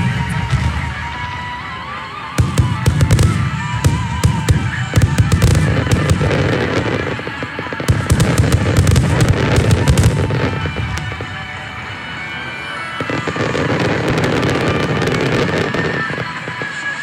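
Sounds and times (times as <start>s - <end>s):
fireworks cracks and pops: 0.0s - 17.0s.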